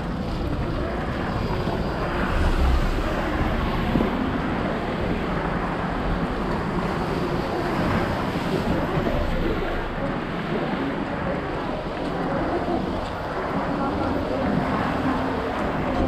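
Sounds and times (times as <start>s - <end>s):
street noise: 0.0s - 16.0s
wind buffeting microphone: 0.0s - 16.0s.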